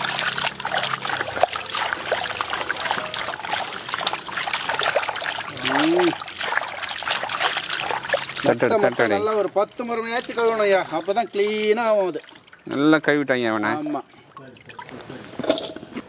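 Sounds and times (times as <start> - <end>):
water pouring and splashing: 0.0 - 16.0.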